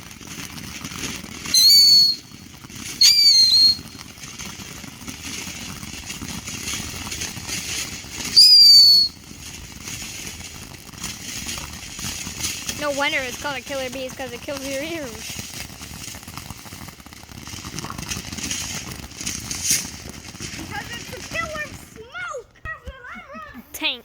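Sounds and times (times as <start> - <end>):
whistling fireworks: 0.0 - 23.8.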